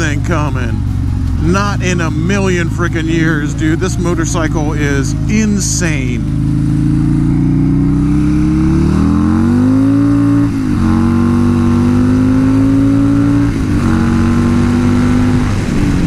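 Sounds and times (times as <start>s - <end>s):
motorcycle accelerating hard: 0.0s - 16.0s.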